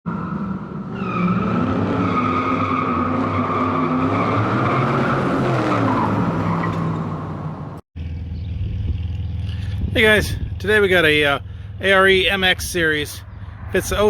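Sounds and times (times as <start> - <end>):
car engine revving: 0.1 - 14.0
tire squeal: 0.1 - 14.0.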